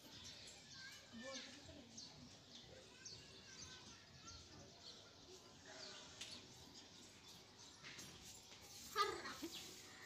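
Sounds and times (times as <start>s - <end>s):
faint birdsong chirps: 0.0s - 10.0s.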